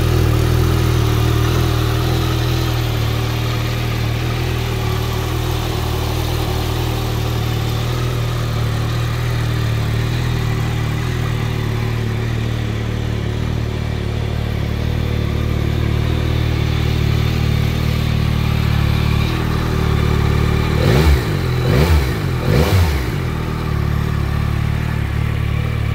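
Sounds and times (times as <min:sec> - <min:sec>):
engine revving: 0:00.0 - 0:25.9
motorcycle engine idling: 0:00.0 - 0:25.9.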